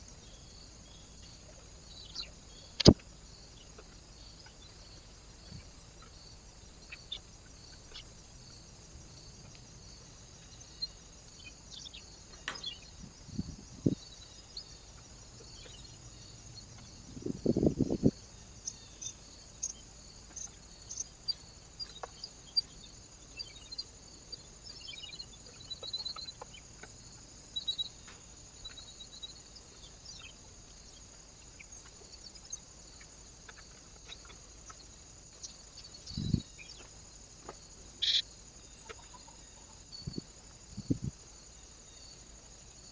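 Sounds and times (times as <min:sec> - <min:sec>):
small birds chirping: 0:00.0 - 0:42.9
steady high hiss: 0:00.0 - 0:42.9.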